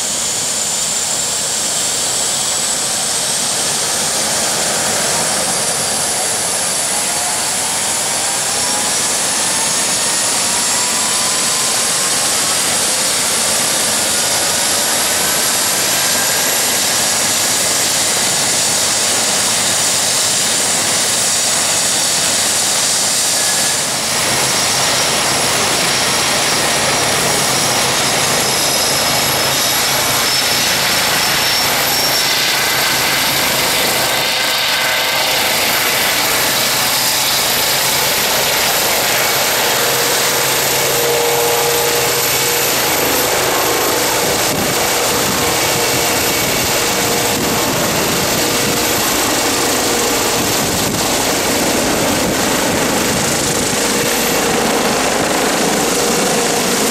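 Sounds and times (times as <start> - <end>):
helicopter rotor and turbines: 0.0 - 56.9
high turbine whine: 0.0 - 56.9.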